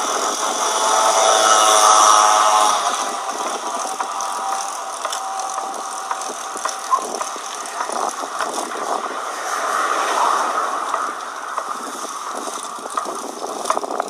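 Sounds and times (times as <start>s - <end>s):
bicycle drivetrain ticking: 0.0s - 14.0s
steady rushing noise: 0.0s - 14.0s.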